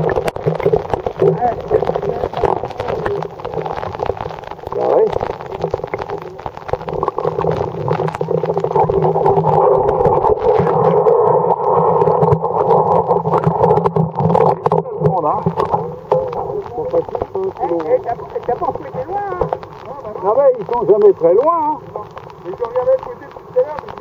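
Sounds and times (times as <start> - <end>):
muffled underwater river rush: 0.0 - 24.0
small underwater clicks: 0.0 - 24.0.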